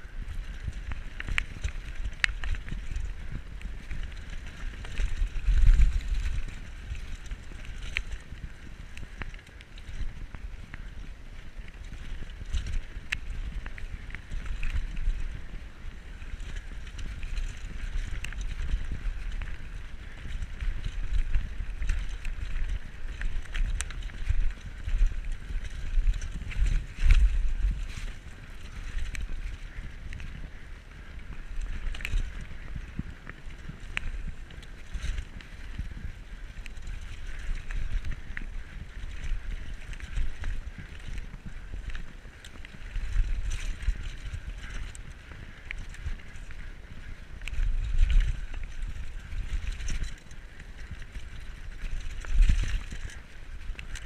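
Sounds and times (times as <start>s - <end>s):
bike clicking and rattling: 0.0s - 54.0s
bike tyres rumbling over dirt: 0.0s - 54.0s
wind buffeting microphone: 0.0s - 54.0s.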